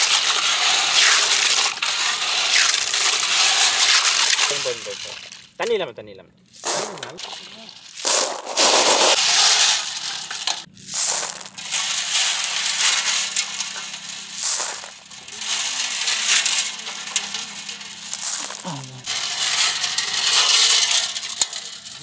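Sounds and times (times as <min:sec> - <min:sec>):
snail shells clattering in basin: 0:00.0 - 0:05.6, 0:06.6 - 0:22.0.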